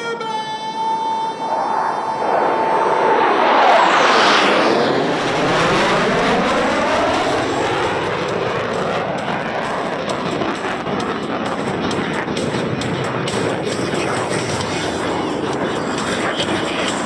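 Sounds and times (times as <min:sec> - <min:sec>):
jet fighters roaring past: 0:00.0 - 0:17.0.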